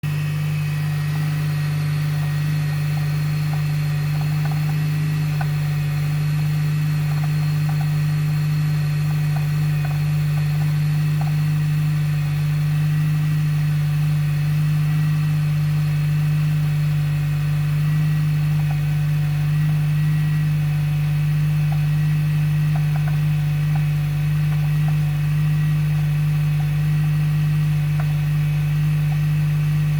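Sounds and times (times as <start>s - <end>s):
drivetrain low hum: 0.0s - 29.9s.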